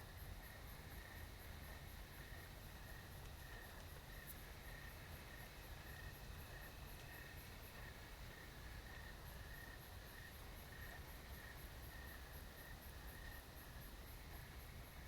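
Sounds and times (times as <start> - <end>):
lower slower insect pulsing: 0.0 - 15.0.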